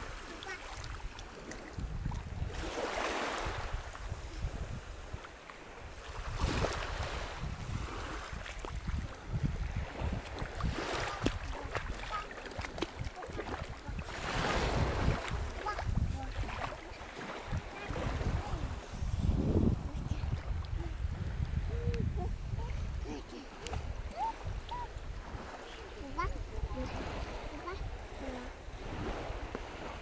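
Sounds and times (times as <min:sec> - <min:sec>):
small waves washing: 0:00.0 - 0:30.0
wind buffeting microphone: 0:00.0 - 0:30.0.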